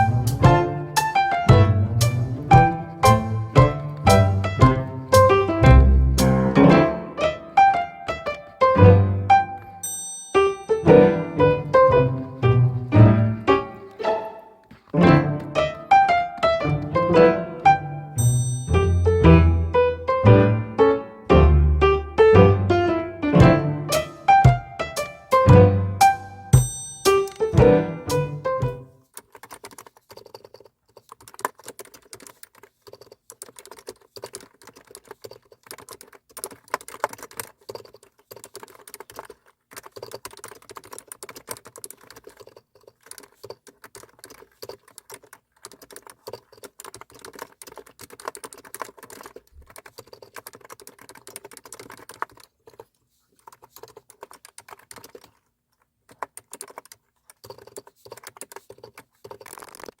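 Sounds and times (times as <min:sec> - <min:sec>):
computer keyboard typing: 0:00.0 - 0:14.0, 0:14.8 - 0:19.2, 0:23.3 - 1:00.0.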